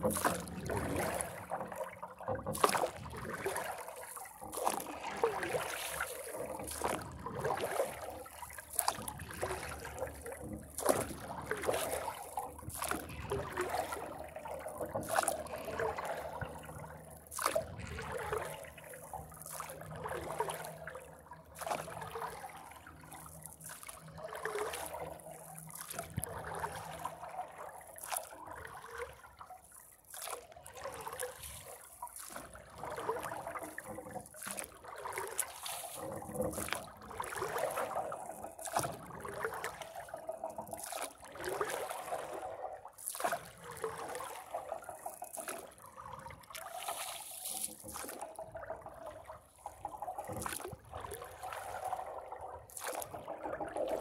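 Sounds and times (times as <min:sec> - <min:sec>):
paddle splashing in water: 0:00.0 - 0:54.0.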